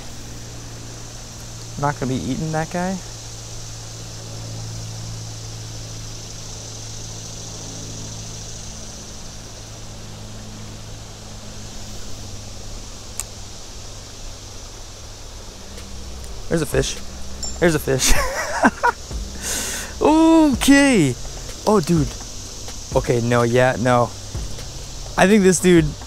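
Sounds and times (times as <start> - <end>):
creek hiss: 0.0 - 26.0
low steady hum: 0.0 - 26.0.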